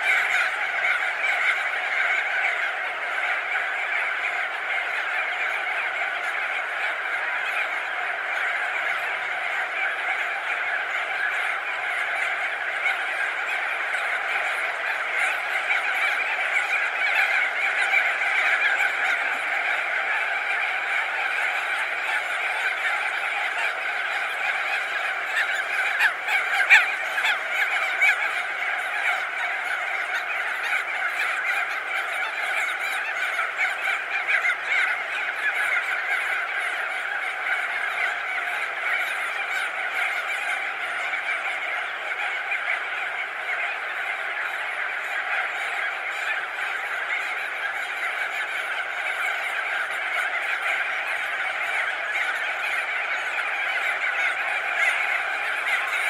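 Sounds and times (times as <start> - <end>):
bird colony chorus of calls: 0.0 - 56.0
nearer bird calls: 0.0 - 56.0.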